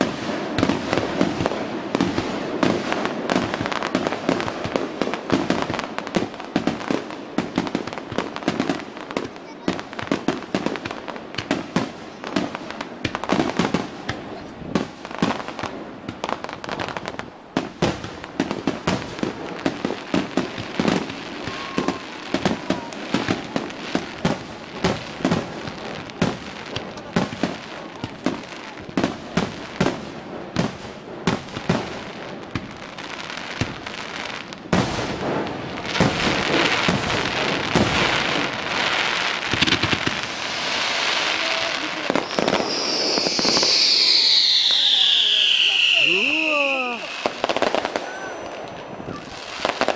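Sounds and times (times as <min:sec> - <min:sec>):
fireworks bangs with echo: 0:00.0 - 0:49.9
fireworks crackling: 0:00.0 - 0:49.9.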